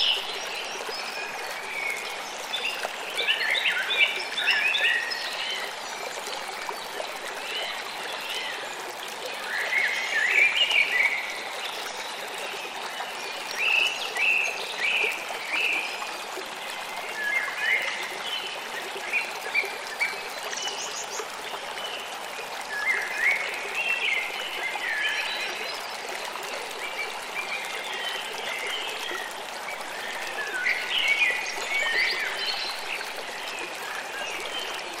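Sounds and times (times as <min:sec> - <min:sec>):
river flowing: 0:00.0 - 0:35.0.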